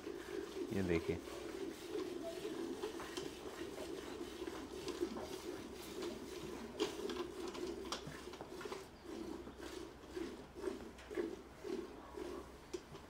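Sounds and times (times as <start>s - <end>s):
milk squirting into metal bucket: 0.0s - 13.0s.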